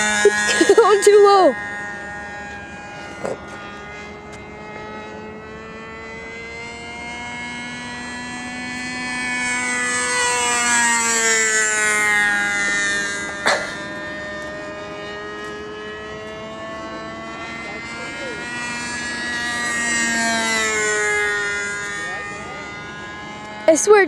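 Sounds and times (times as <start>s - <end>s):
model airplane engine flying by: 0.0s - 24.0s.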